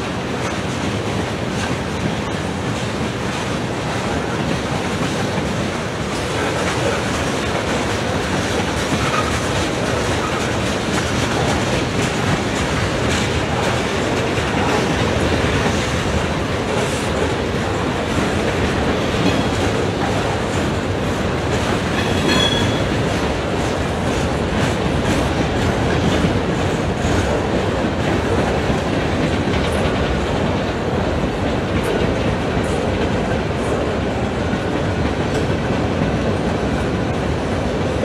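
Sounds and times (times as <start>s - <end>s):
train wheels clattering: 0.0s - 38.0s.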